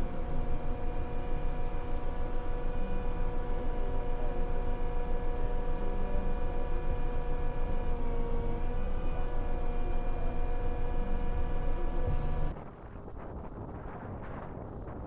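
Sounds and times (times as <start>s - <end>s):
constant high whine: 0.0s - 15.0s
low engine rumble: 0.0s - 15.0s.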